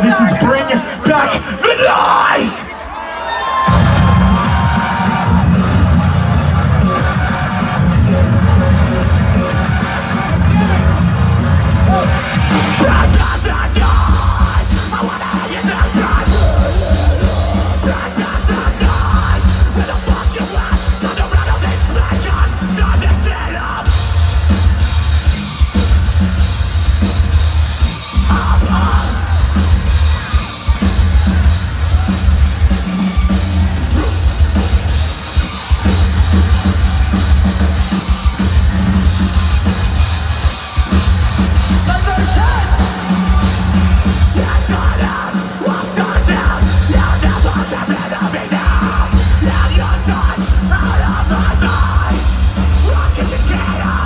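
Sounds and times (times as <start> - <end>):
distorted chugging guitars and bass: 3.6 - 54.0
pounding drums: 3.6 - 54.0.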